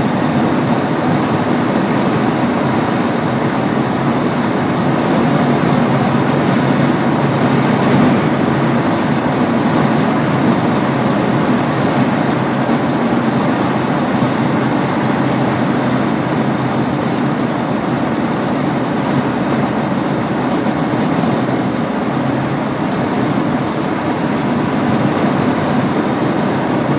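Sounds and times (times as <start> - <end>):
diesel engine running: 0.0 - 26.9
road noise: 0.0 - 26.9.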